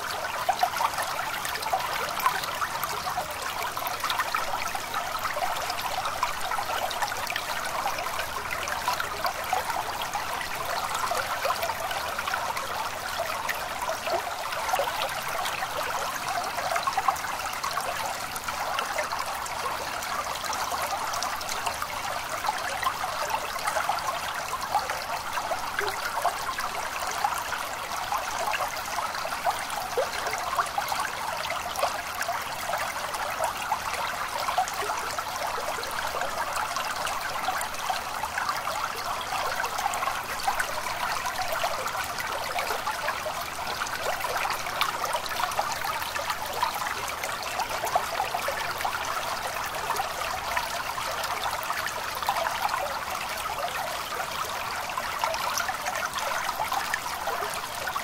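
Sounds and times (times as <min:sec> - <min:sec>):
stream trickling and babbling: 0:00.0 - 0:58.0.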